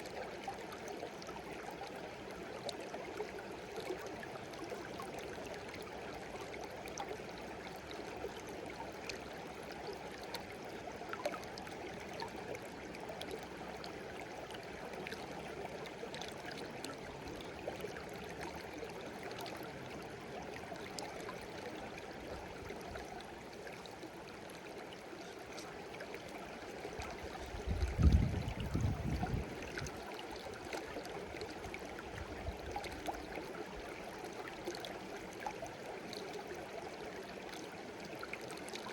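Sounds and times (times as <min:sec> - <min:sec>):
stream babbling: 0:00.0 - 0:38.9
water splashes and drips: 0:00.0 - 0:38.9.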